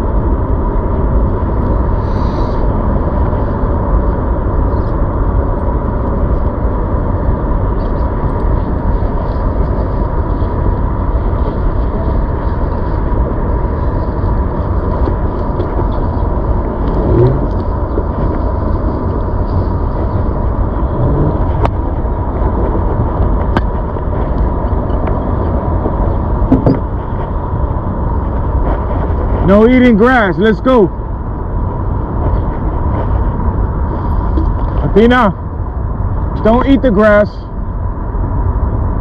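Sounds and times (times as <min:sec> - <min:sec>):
wind rushing on microphone: 0:00.0 - 0:39.0.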